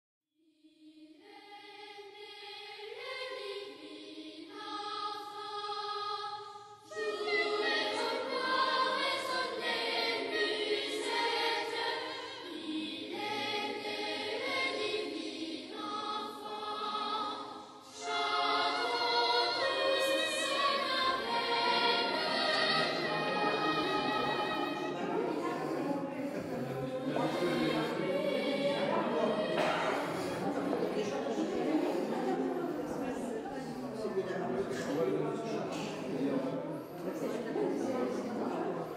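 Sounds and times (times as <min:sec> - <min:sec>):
choir singing: 0:00.5 - 0:38.9.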